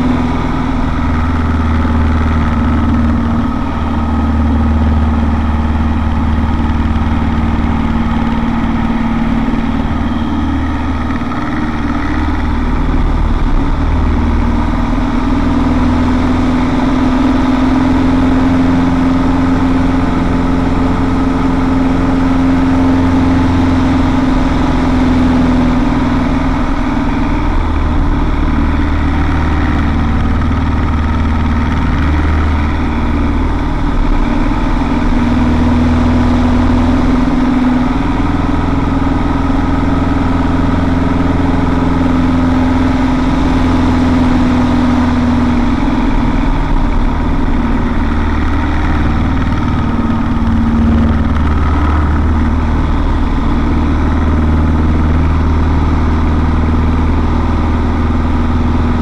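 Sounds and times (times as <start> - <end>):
aircraft engine and propeller drone: 0.0 - 59.0.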